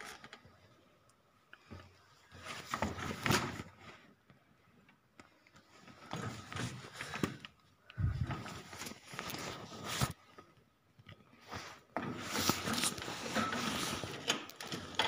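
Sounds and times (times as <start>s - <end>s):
handling noise rustling and scraping: 1.6s - 4.4s, 5.2s - 15.0s.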